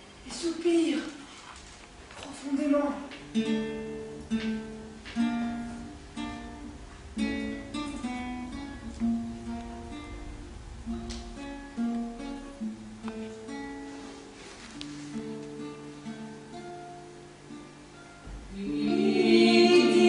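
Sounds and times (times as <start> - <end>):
acoustic guitar chords: 3.2 - 20.0.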